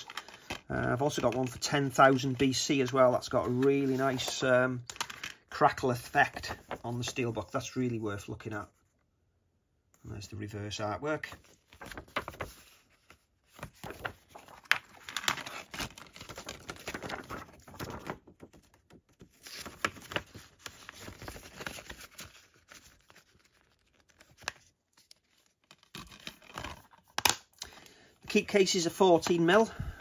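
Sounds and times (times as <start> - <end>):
paper and card rustling: 0.0 - 7.6, 11.2 - 30.0.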